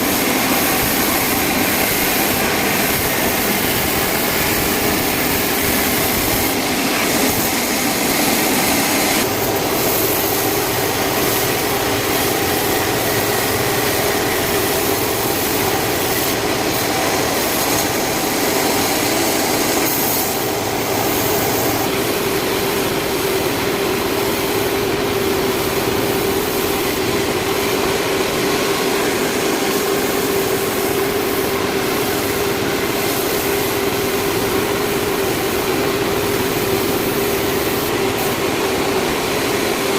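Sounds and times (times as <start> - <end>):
saw cutting a log: 0.0 - 39.9.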